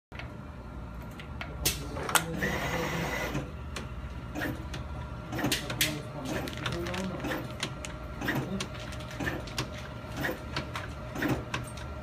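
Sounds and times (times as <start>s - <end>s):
low machine hum: 0.1s - 12.0s.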